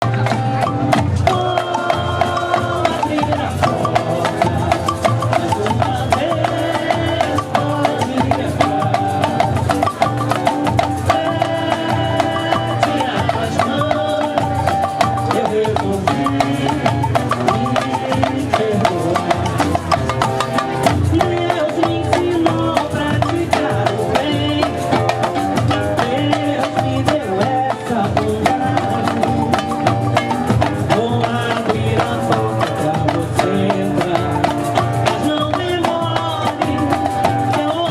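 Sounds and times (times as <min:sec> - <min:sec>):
hand percussion: 0:00.0 - 0:37.9
samba music: 0:00.0 - 0:37.9.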